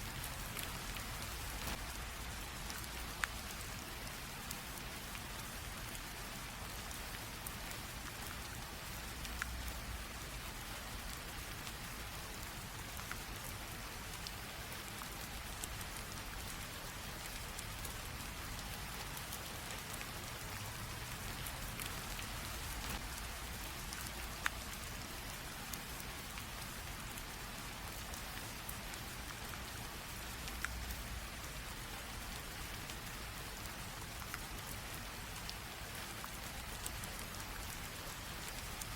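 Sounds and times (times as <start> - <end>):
light rain drizzle: 0.0 - 38.9.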